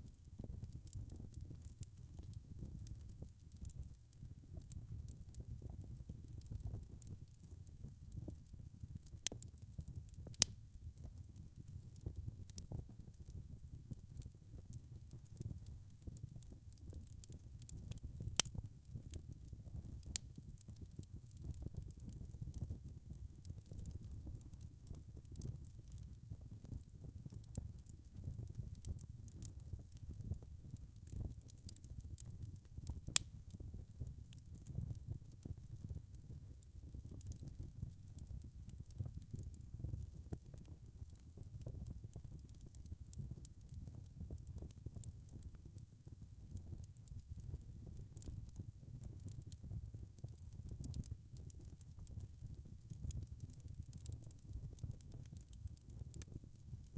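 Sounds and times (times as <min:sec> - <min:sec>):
wood fire crackling and popping: 0:00.1 - 0:56.9.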